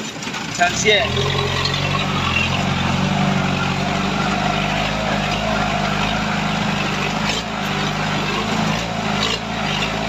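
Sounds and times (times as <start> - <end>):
engine running under load: 0.0 - 10.0.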